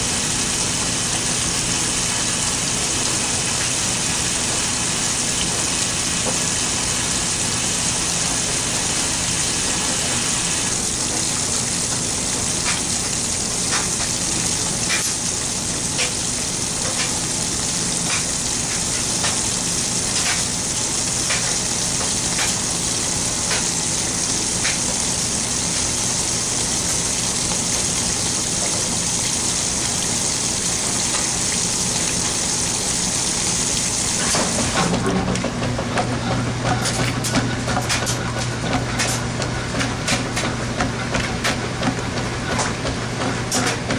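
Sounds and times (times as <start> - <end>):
washing machine water rushing: 0.0 - 43.9.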